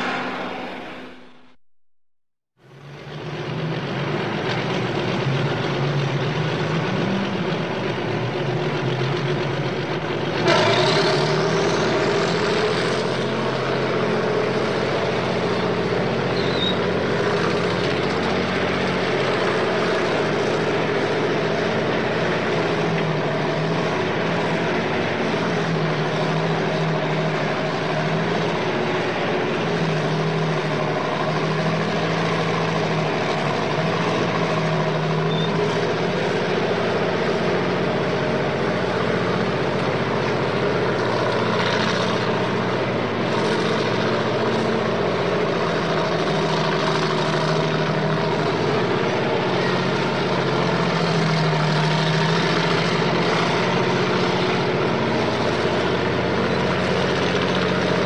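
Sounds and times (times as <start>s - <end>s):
truck engine running: 2.6s - 58.0s.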